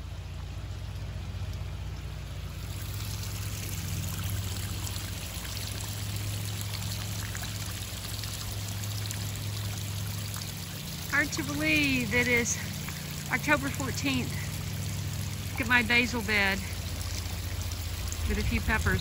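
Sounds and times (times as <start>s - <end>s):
water spraying on plants: 0.4s - 19.0s.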